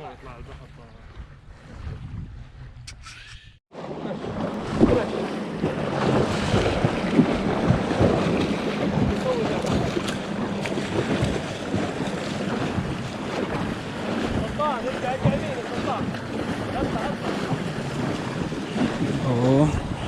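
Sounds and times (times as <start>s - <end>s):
wind buffeting microphone: 0.0s - 3.6s, 4.4s - 20.0s
sea water splashing: 3.7s - 20.0s.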